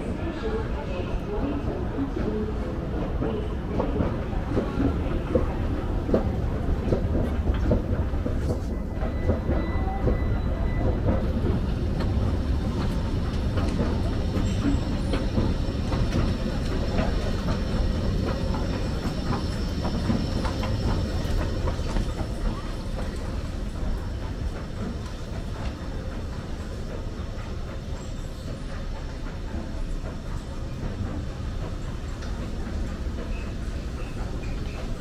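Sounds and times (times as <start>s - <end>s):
escalator rumbling and clicking: 3.0s - 35.0s.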